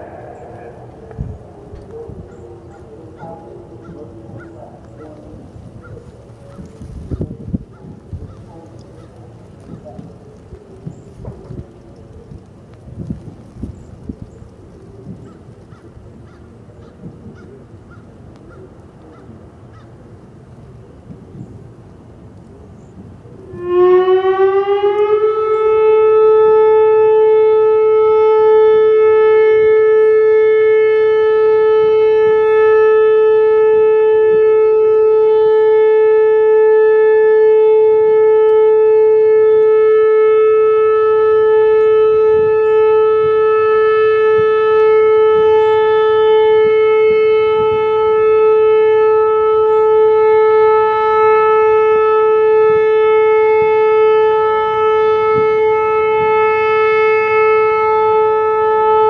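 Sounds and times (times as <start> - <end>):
warning siren steady tone: 0.0 - 12.2, 23.0 - 59.0.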